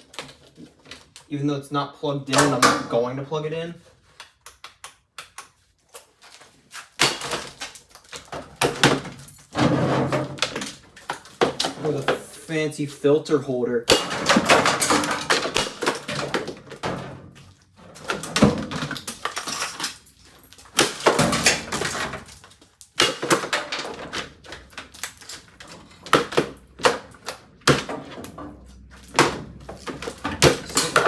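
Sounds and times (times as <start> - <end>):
hard plastic parts clattering: 0.0 - 1.3, 2.3 - 3.1, 5.9 - 13.0, 13.9 - 31.0.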